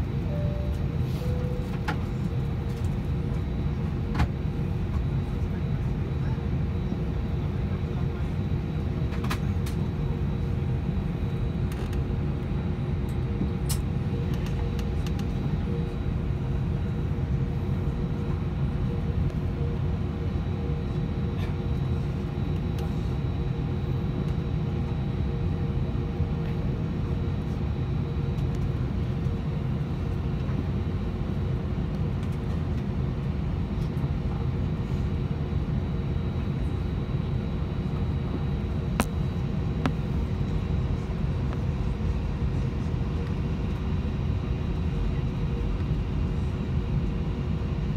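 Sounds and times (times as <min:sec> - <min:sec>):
low cabin rumble: 0:00.0 - 0:46.6
steady humming tones: 0:00.0 - 0:47.9.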